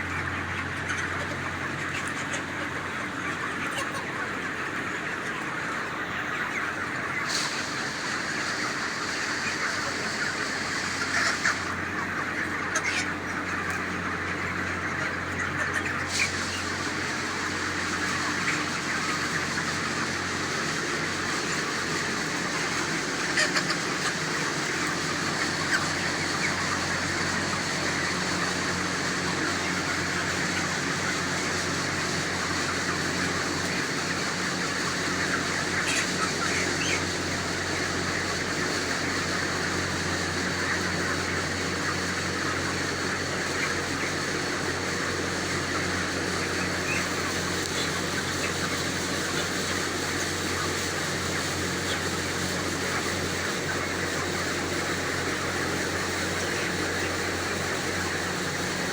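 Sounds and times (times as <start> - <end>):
chickens chirping and clucking: 0.0 - 58.9.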